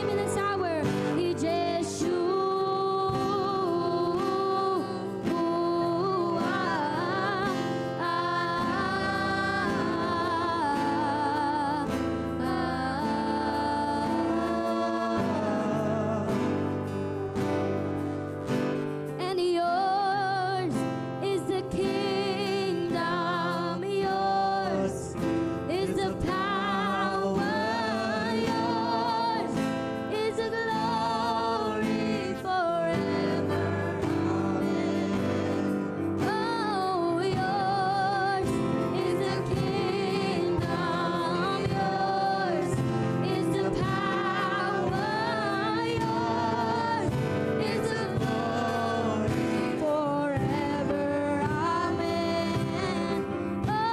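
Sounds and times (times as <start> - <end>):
instrumental accompaniment: 0.0 - 53.9
voices singing gospel song: 0.0 - 53.9.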